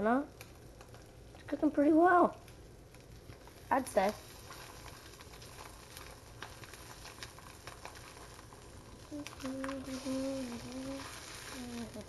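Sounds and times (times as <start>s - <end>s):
food sizzling in butter: 0.0s - 12.0s.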